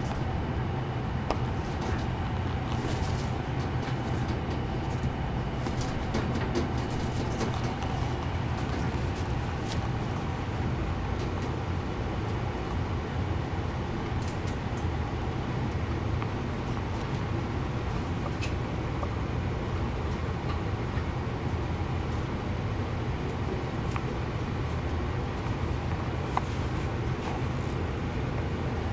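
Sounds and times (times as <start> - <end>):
low mechanical rumble: 0.0 - 28.9.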